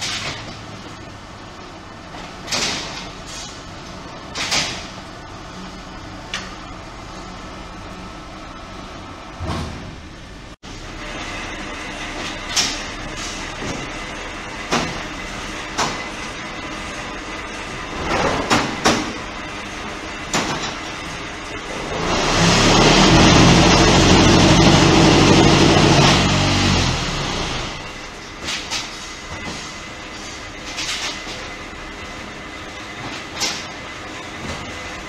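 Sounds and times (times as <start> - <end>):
machine hum: 3.7 - 35.0.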